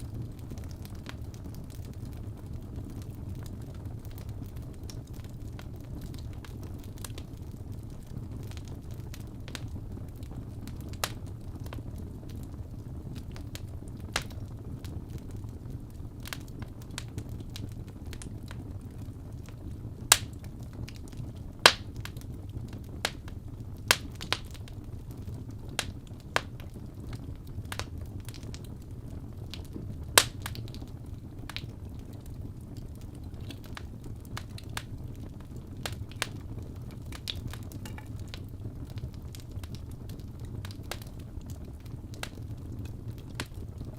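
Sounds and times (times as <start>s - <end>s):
fire crackles and pops: 0.0s - 43.9s
low rumble of flames: 0.0s - 43.9s.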